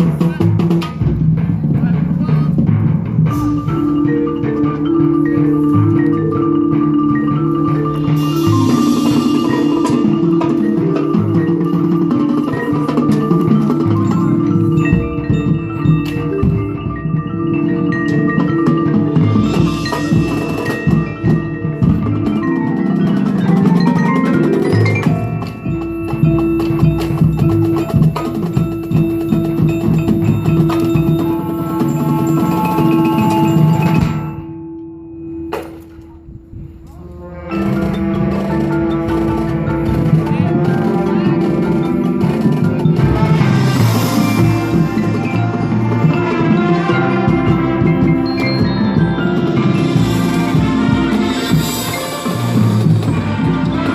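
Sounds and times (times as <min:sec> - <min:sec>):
drums: 0:00.0 - 0:53.9
mallet percussion: 0:00.0 - 0:53.9
held brass chords: 0:03.2 - 0:35.0, 0:36.8 - 0:53.9.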